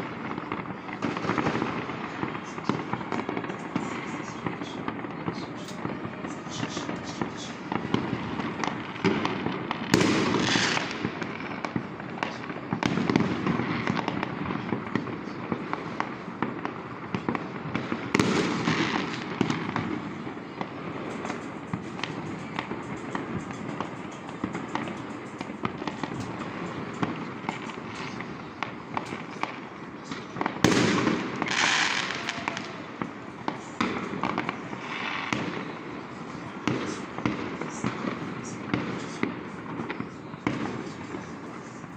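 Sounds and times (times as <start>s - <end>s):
fireworks and firecrackers bangs: 0.0s - 41.9s.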